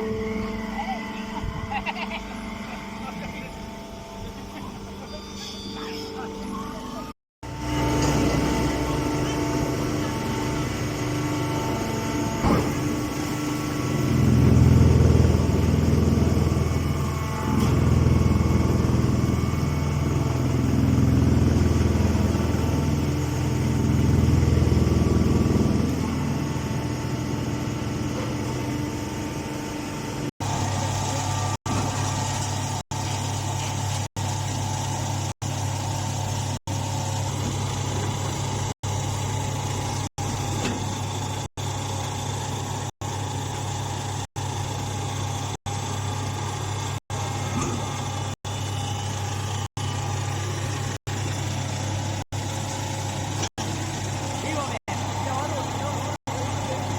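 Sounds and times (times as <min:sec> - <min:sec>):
baler machinery and engine running: 0:00.0 - 0:56.9.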